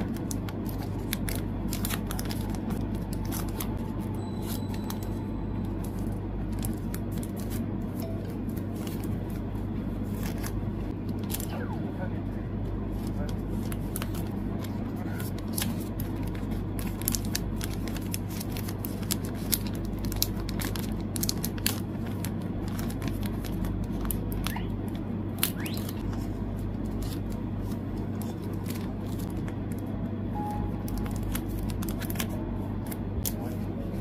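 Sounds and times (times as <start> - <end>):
plastic sleeves crinkling: 0.0 - 11.5, 12.9 - 24.7, 25.4 - 29.9, 30.8 - 33.5
steady low hum: 0.0 - 34.0.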